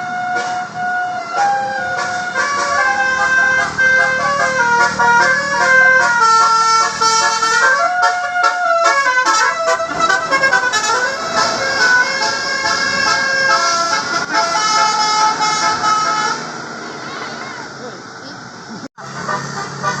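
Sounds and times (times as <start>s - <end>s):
multi-tone bus horn melody: 0.0s - 17.5s, 19.0s - 20.0s
engine and road noise: 0.0s - 20.0s.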